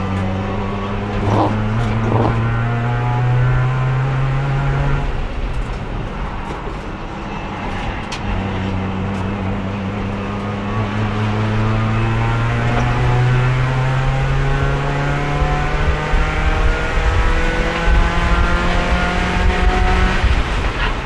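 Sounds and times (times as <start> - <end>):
race car engine: 0.0 - 21.0.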